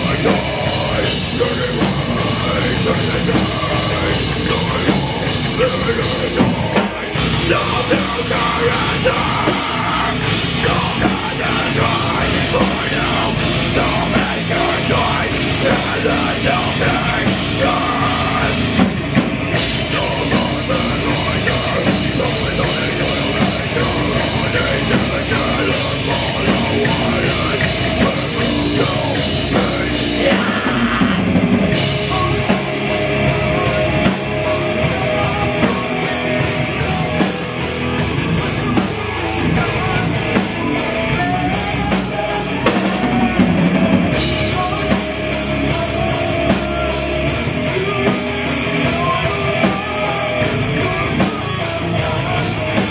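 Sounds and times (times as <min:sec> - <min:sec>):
bass guitar: 0:00.0 - 0:52.9
drum kit: 0:00.0 - 0:52.9
electric guitar: 0:00.0 - 0:52.9.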